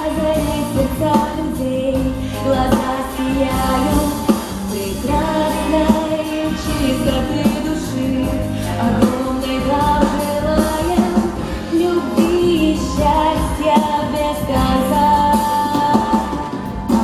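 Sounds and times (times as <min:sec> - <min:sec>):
pop song backing track: 0:00.0 - 0:17.0.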